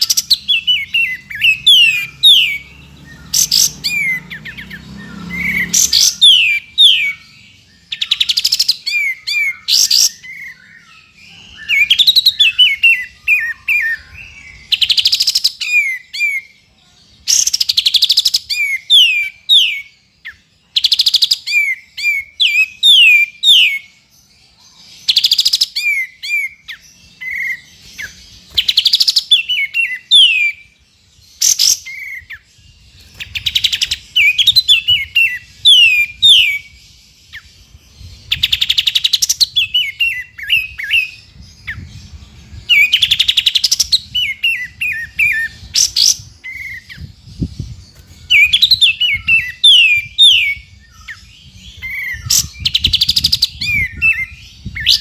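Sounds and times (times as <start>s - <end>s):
bird singing rattles and whistles: 0.0s - 16.5s, 25.0s - 55.0s.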